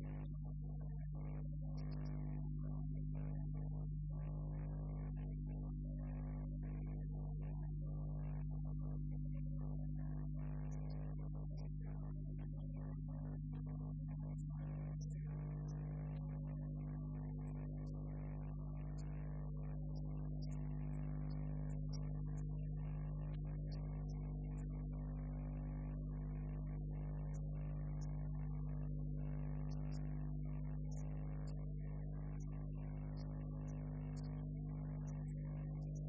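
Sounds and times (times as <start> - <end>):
electrical hum and buzz: 0.0 - 36.0.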